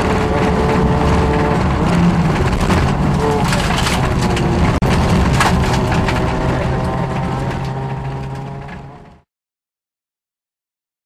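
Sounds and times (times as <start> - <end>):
gravel rattling against car underside: 0.0 - 9.2
car engine at high revs: 0.0 - 9.3.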